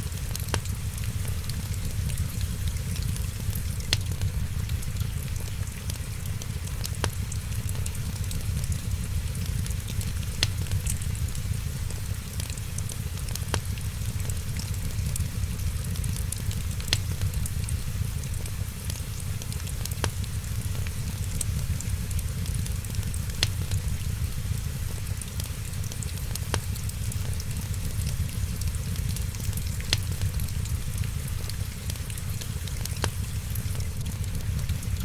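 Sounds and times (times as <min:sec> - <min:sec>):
fire popping: 0:00.0 - 0:35.0
wood fire crackling: 0:00.0 - 0:35.0.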